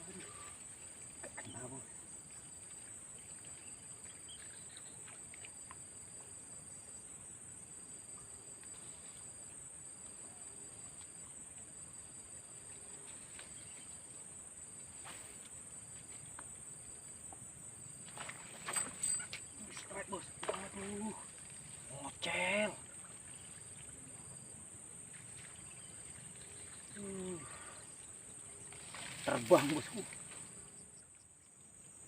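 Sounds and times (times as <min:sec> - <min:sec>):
insects droning high-pitched: 0:00.0 - 0:32.0
lower insect call: 0:00.0 - 0:32.0.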